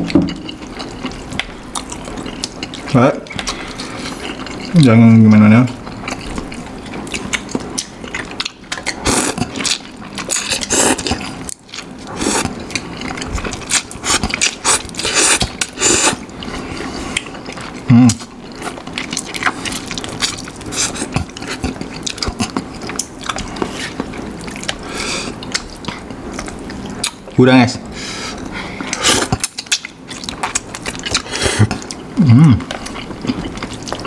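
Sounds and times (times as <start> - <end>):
chewing: 0.0 - 27.4, 28.2 - 34.0.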